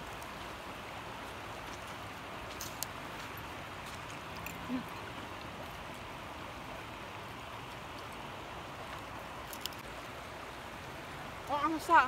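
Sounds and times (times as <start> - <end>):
water hissing along shoreline: 0.0 - 12.0.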